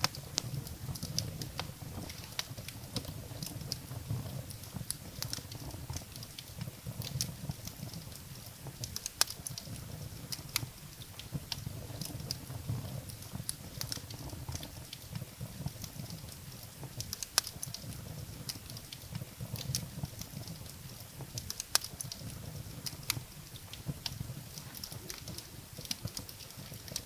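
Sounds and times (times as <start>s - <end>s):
firewood crackling in fireplace: 0.0s - 27.0s.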